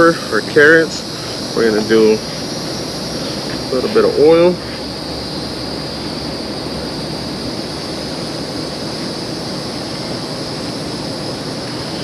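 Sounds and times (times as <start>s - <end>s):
constant high-pitched hiss: 0.0s - 12.0s.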